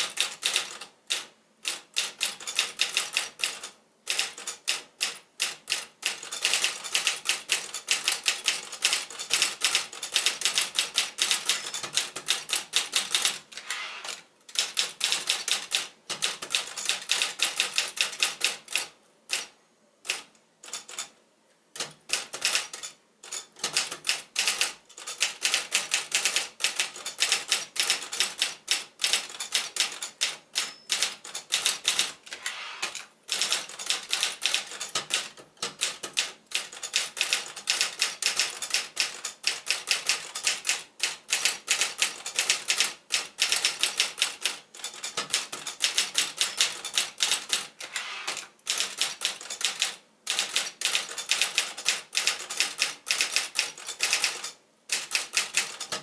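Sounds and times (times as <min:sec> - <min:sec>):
typewriter keystroke clacks: 0:00.0 - 0:13.4, 0:14.1 - 0:19.5, 0:20.1 - 0:21.1, 0:21.8 - 0:56.0.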